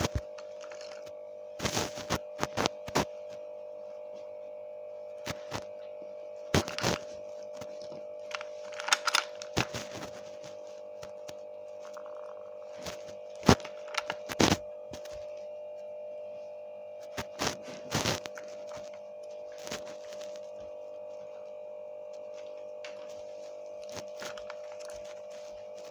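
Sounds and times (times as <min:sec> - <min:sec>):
electrical hum: 0:00.0 - 0:25.9.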